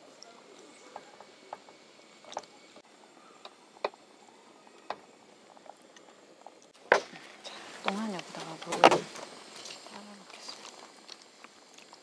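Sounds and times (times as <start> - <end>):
faint boiling water: 0.0 - 12.0.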